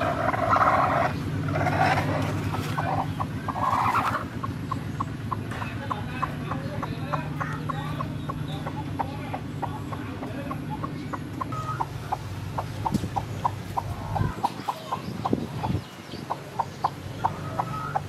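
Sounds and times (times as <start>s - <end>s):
hen clucking grumble: 0.0s - 18.0s.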